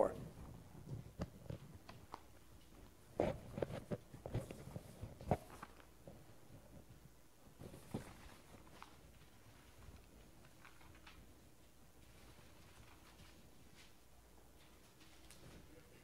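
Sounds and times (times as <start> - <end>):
paper rustling: 1.6 - 6.8, 7.6 - 16.0.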